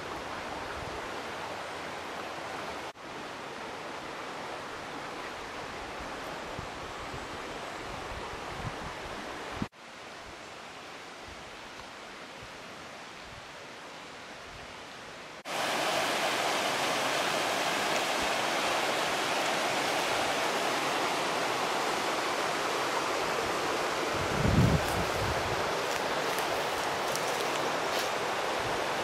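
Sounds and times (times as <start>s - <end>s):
rushing mountain stream: 0.0s - 29.0s.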